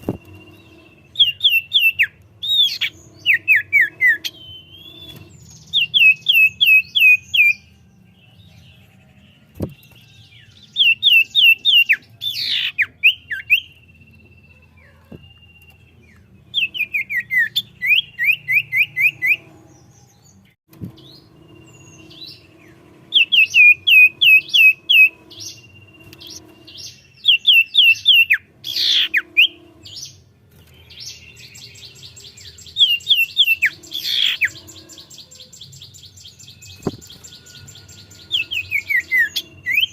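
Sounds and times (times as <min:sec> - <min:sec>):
harsh bird calls: 0:00.0 - 0:07.7, 0:08.4 - 0:39.9
bird singing whistled notes: 0:00.0 - 0:39.9
buzzy bird trill: 0:00.0 - 0:39.9.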